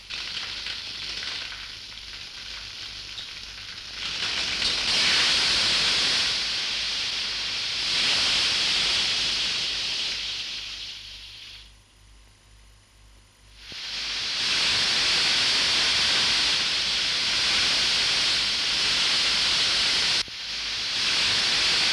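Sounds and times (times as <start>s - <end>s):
gas torch hissing: 0.0s - 11.7s, 13.5s - 21.9s.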